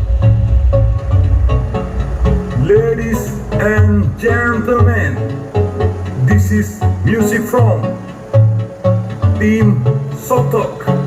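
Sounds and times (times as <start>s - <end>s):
bass-heavy music over loudspeakers: 0.0s - 11.0s.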